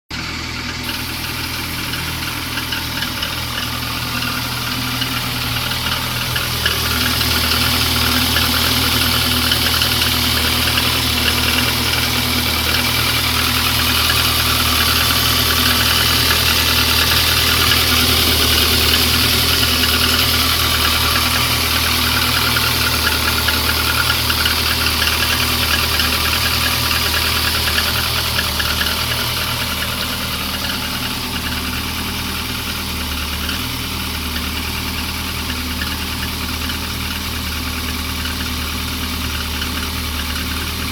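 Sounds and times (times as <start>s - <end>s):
car engine idling with knock: 0.1s - 40.9s.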